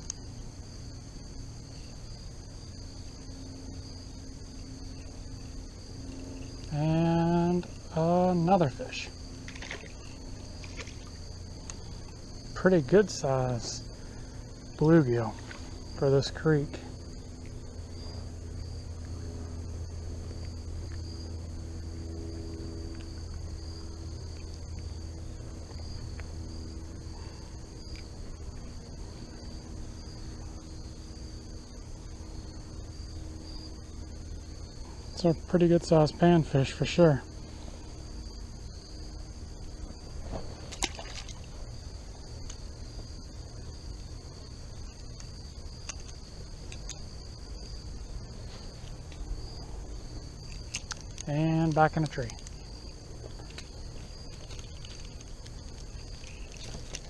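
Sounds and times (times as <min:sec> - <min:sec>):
insects trilling: 0:00.0 - 0:57.0
low background rumble: 0:00.0 - 0:57.0.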